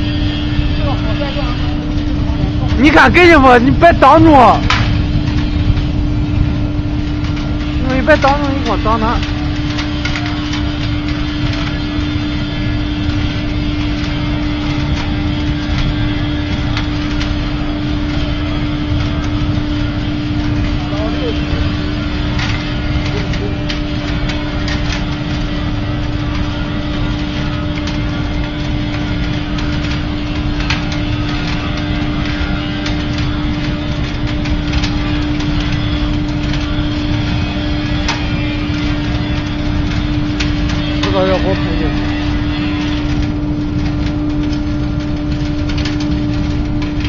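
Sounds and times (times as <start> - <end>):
burner flame roaring: 0.0 - 47.0
constant hum: 0.0 - 47.0
sharp crackles: 0.0 - 47.0.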